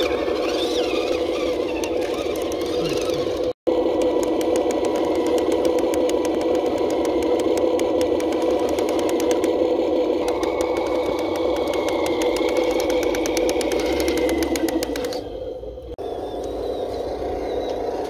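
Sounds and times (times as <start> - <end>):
higher whine: 0.0 - 18.0
toy truck motor and gear whine: 0.0 - 18.0.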